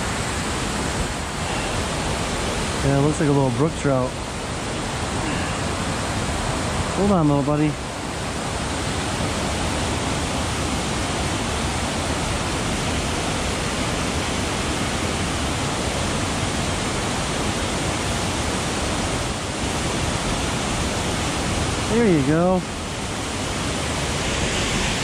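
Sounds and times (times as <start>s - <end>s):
water rushing over waterfall: 0.0s - 25.0s.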